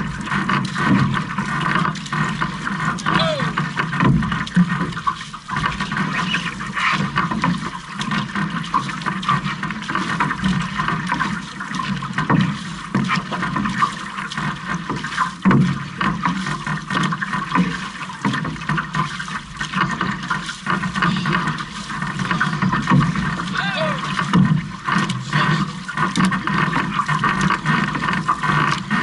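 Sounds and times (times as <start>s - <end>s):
paddles catching water: 0.0s - 29.0s
water rushing and splashing: 0.0s - 29.0s.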